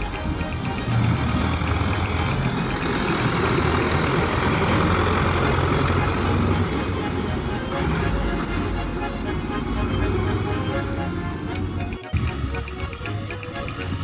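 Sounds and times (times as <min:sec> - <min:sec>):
tractor engine passing: 0:00.0 - 0:14.0.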